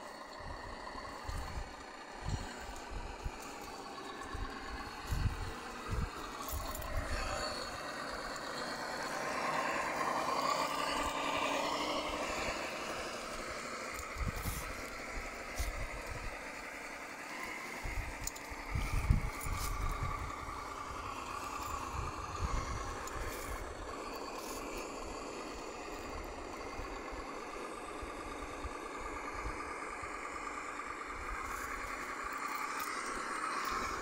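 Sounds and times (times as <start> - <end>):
toy car electric motor whining: 0.0 - 34.0.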